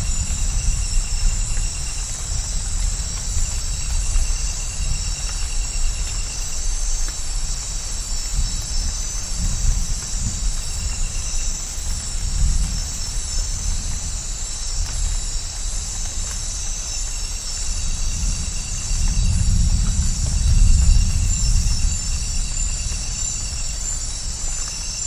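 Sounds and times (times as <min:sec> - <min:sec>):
insects chorus: 0:00.0 - 0:25.0
rain hiss: 0:00.0 - 0:25.0.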